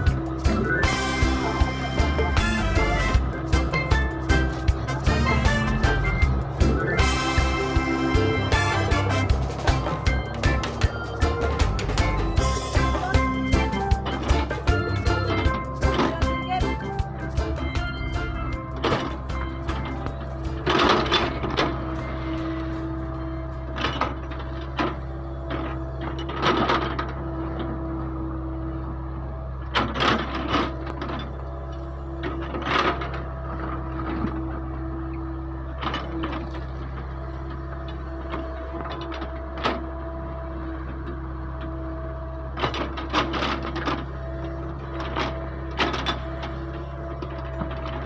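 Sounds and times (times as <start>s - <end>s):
diesel engine running: 0.0s - 48.0s
hydraulic whine: 0.0s - 48.0s.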